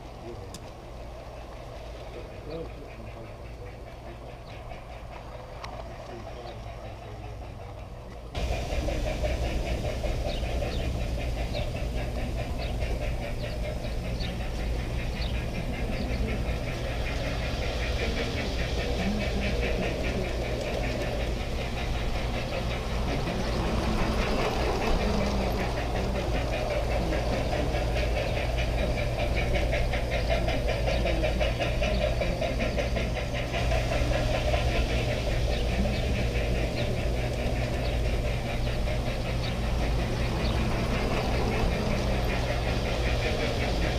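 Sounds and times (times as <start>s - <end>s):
model train motor hum: 0.0s - 43.9s
wheels clattering on track: 0.0s - 43.9s.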